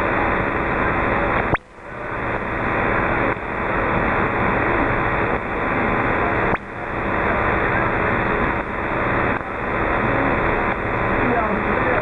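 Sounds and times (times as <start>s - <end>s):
radio receiver static: 0.0s - 12.0s.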